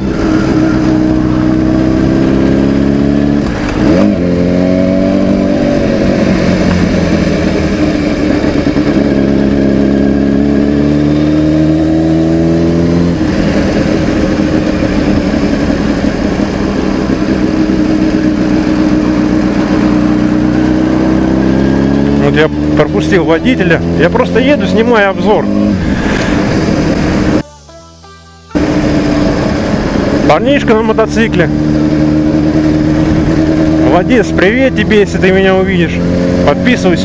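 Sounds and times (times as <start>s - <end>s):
motorcycle engine running: 0.0s - 27.4s, 28.5s - 37.0s.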